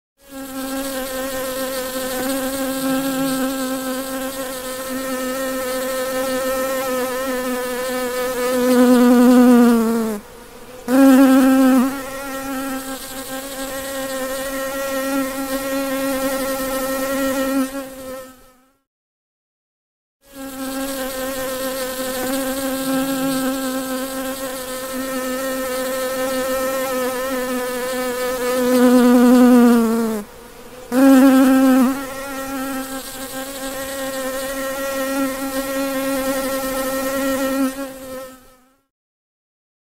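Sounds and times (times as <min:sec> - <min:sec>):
bee buzzing: 0:00.2 - 0:18.8, 0:20.2 - 0:38.9.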